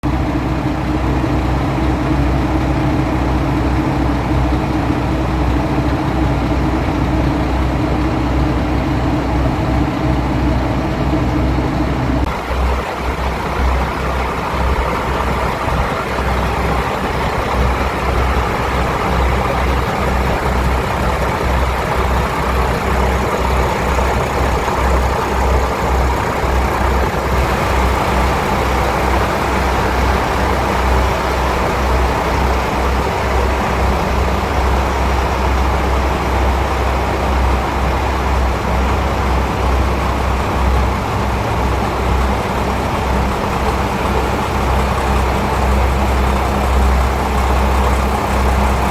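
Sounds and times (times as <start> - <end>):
diesel railcar engine idling: 0.0 - 48.9.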